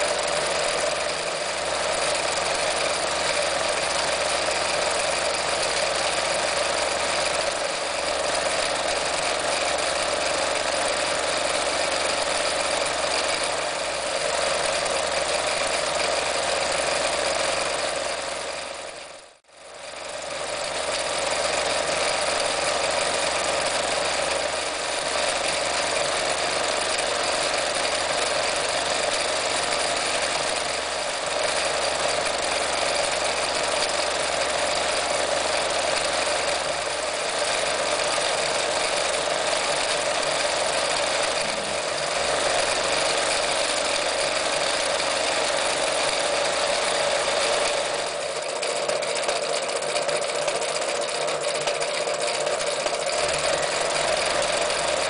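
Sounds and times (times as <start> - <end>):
electric sewing machine running: 0.0 - 55.0.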